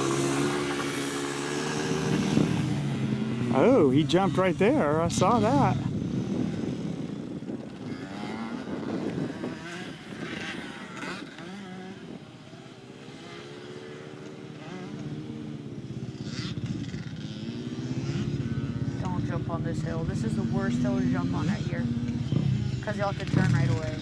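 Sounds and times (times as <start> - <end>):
faint dirt bike engine: 0.0 - 24.0.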